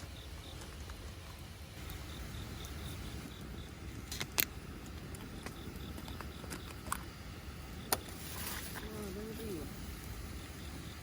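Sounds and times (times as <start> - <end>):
insect chirping: 0.0 - 11.0
steady low rumble: 0.0 - 11.0.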